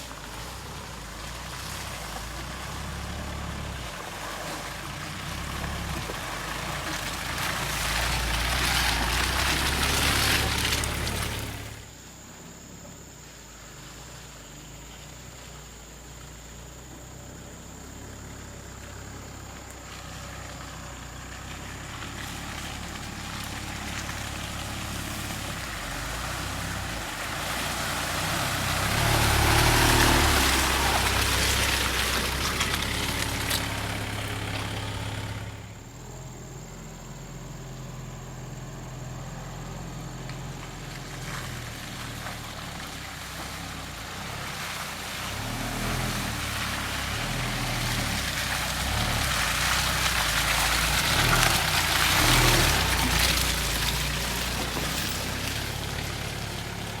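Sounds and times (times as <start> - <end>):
truck engine running: 0.0 - 13.2, 16.5 - 57.0.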